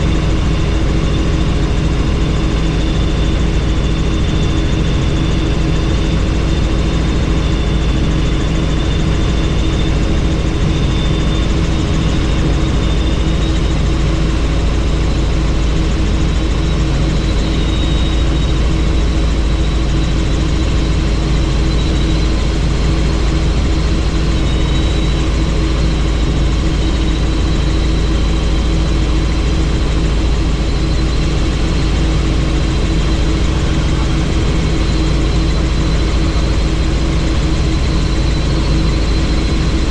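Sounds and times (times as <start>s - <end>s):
helicopter rotor and engine roar: 0.0s - 39.9s
high turbine whine: 0.0s - 39.9s.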